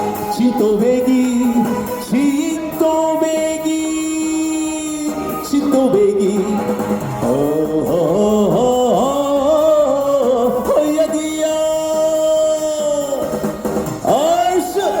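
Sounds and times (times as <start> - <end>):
backing track music: 0.0 - 15.0
person singing: 0.0 - 15.0.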